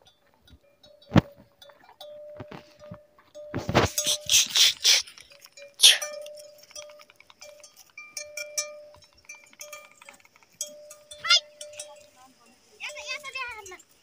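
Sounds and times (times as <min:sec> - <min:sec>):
pony bells clinking and ringing: 0:00.0 - 0:14.0.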